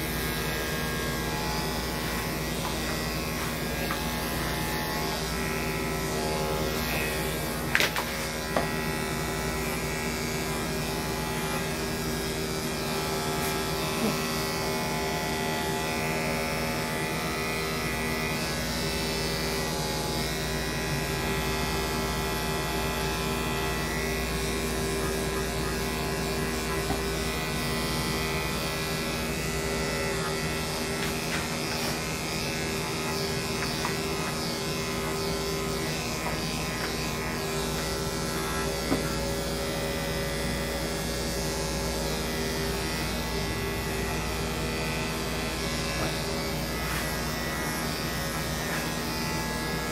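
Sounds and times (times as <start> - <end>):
electric clippers running: 0.0 - 49.9.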